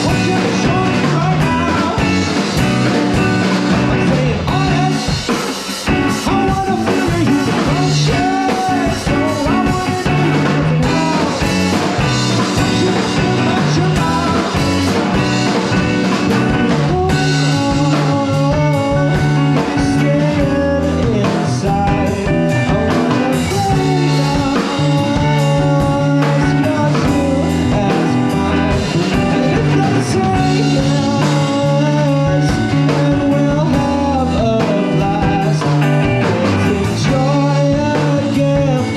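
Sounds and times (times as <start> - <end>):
bass guitar: 0.0 - 38.9
drum kit: 0.0 - 38.9
electric guitar: 0.0 - 38.9
person singing: 0.0 - 38.9.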